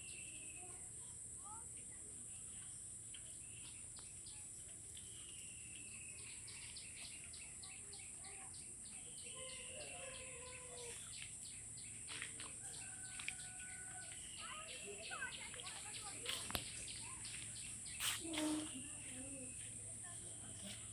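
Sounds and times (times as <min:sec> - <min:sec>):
insects droning: 0:00.0 - 0:20.9
birds chirping: 0:02.6 - 0:20.9.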